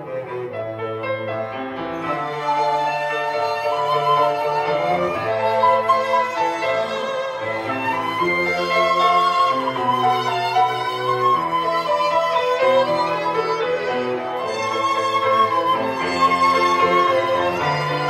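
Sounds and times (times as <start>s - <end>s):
chamber quartet playing slow melody: 0.0s - 18.0s
violin melody: 0.0s - 18.0s.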